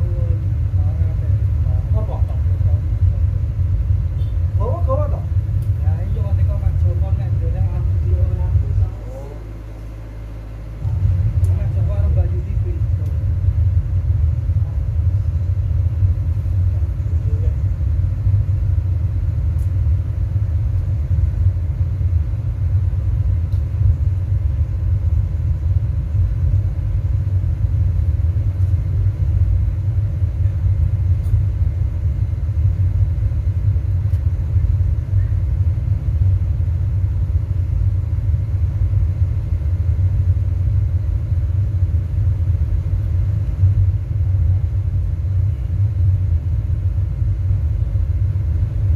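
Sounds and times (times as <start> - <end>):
deep bass rumble from subwoofers: 0.0 - 48.9.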